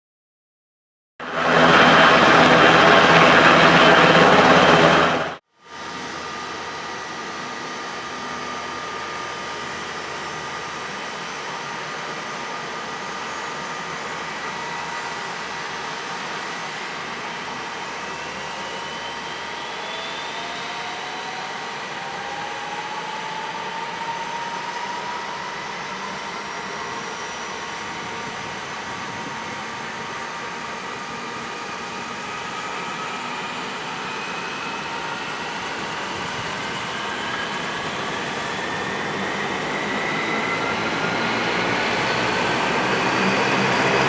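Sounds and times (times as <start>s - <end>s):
helicopter turbine spooling up: 1.2s - 44.0s.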